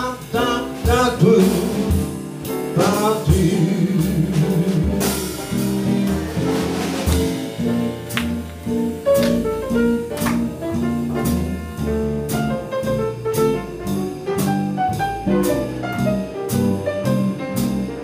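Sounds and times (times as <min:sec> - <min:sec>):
jazz combo playing: 0:00.0 - 0:18.0.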